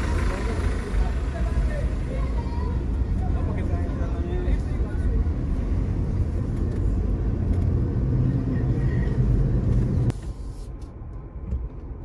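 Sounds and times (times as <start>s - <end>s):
vehicle rumble from inside cab: 0.0s - 12.0s.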